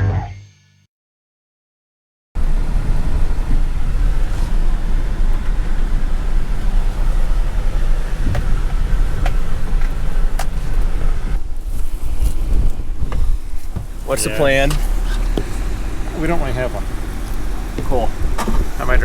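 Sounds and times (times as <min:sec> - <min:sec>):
wind buffeting microphone: 0:02.6 - 0:19.0.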